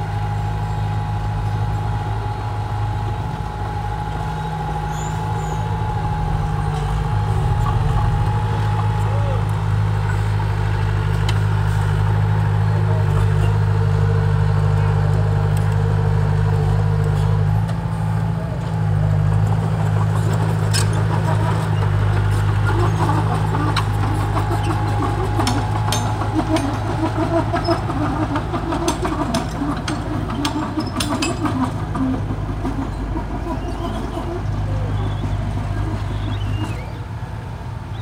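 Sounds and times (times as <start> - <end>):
dozer diesel engine running: 0.0 - 38.0.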